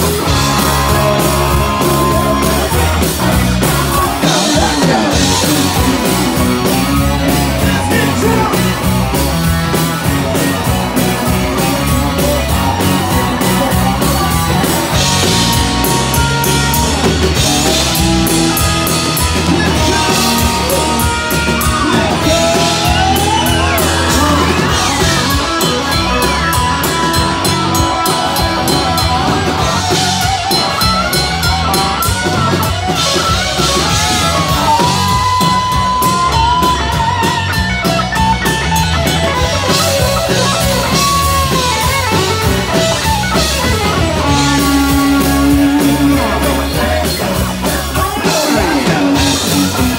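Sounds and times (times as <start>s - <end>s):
electric guitar lead: 0.0s - 49.9s
rock band playing: 0.0s - 49.9s.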